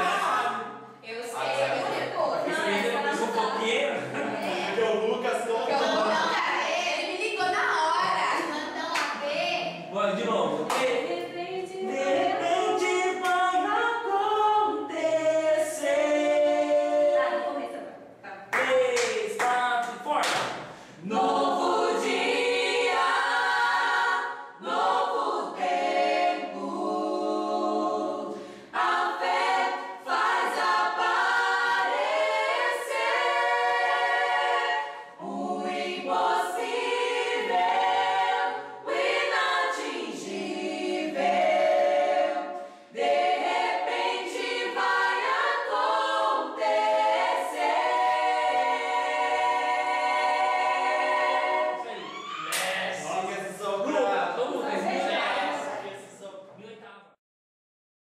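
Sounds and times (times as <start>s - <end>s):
mixed vocal group singing in harmony: 0.0s - 19.4s, 20.5s - 56.3s.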